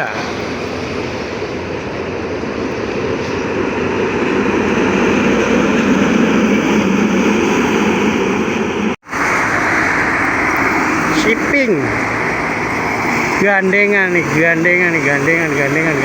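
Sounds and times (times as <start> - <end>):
heavy trucks passing on highway: 0.0 - 16.0.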